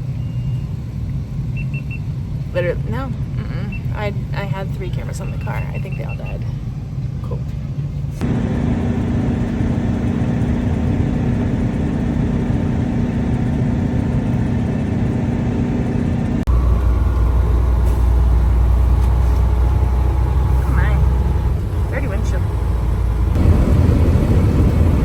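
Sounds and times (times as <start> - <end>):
deep engine rumble: 0.0 - 25.0
vehicle engine humming: 0.0 - 25.0.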